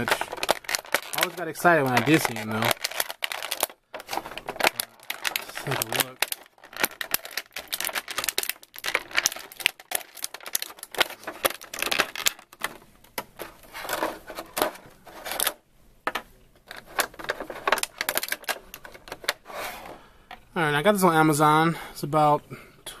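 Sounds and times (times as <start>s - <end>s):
plastic packaging crinkling: 0.0s - 15.6s, 16.6s - 19.5s.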